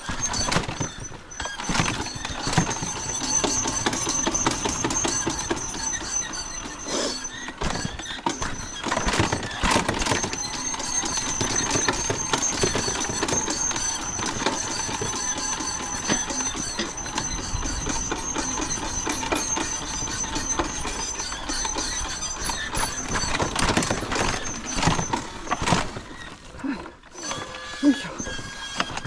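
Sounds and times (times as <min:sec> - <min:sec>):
vehicle rattling and knocking: 0:00.0 - 0:27.6.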